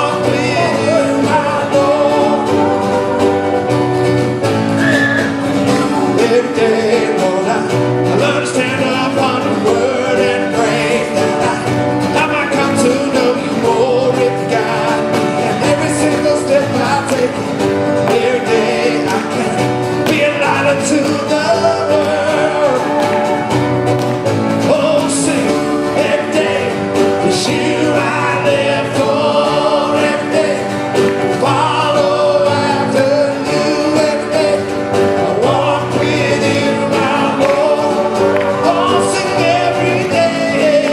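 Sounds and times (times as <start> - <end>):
drum kit: 0.0 - 40.9
guitar: 0.0 - 40.9
keyboard: 0.0 - 40.9
people singing: 0.0 - 40.9.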